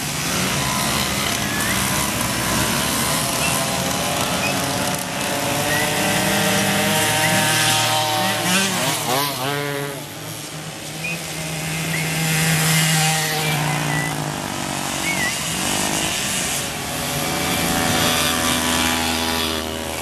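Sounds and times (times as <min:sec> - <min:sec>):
moped engines racing past: 0:00.0 - 0:20.0.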